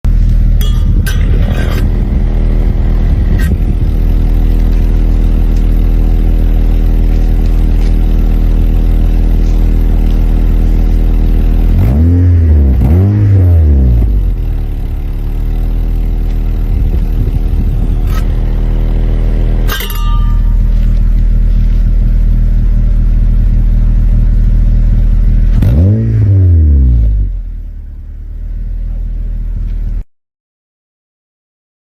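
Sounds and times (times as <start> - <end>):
car engine idling: 0.1 - 26.0, 27.0 - 30.0
engine throttle blips: 0.1 - 30.0.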